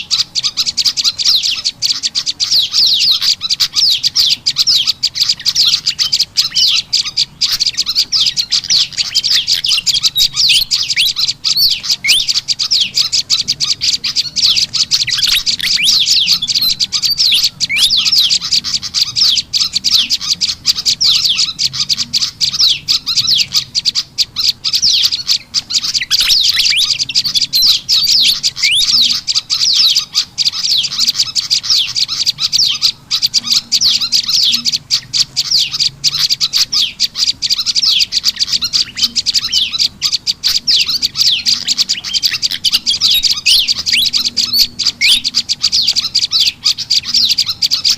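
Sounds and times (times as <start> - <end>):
fantail bird calls: 0.0 - 47.9
songbirds chirping rapidly: 0.0 - 47.9.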